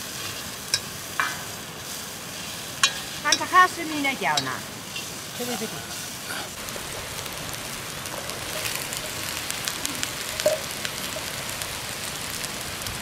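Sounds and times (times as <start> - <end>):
oil ticking: 0.0 - 13.0
vegetables sizzling in oil: 0.0 - 13.0.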